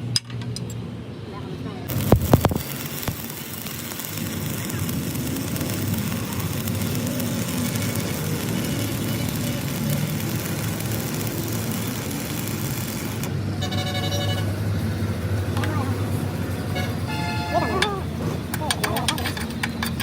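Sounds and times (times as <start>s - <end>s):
engine humming with hiss: 1.2s - 20.0s.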